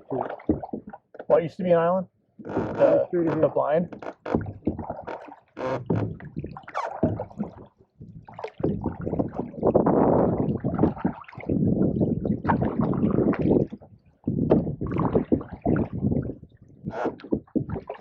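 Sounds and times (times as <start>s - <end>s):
paddle pulling through water: 0.0s - 1.8s, 2.4s - 18.0s.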